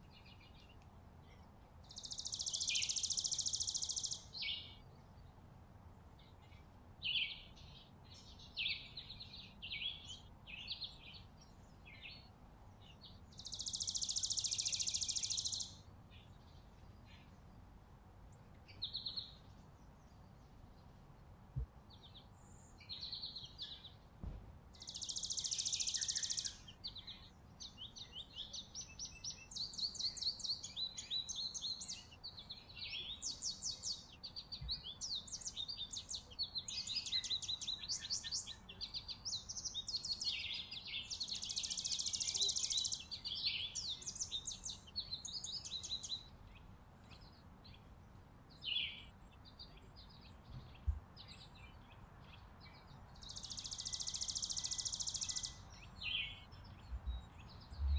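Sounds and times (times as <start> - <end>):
songbirds chipping and trilling: 0.0 - 57.9.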